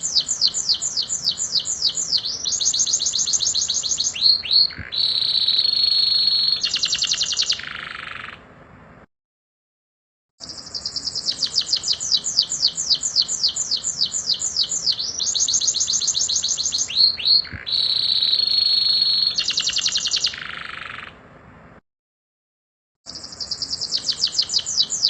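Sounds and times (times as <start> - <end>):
canary singing: 0.0 - 8.4, 10.4 - 21.2, 23.1 - 25.0.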